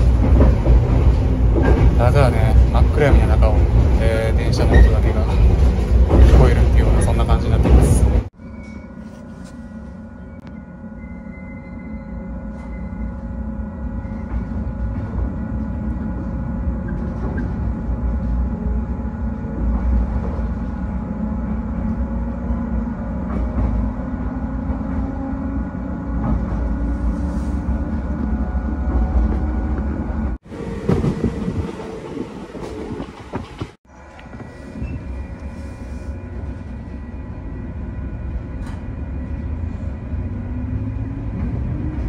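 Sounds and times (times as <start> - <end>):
train wheels rumbling on rail: 0.0 - 8.8, 9.4 - 42.0.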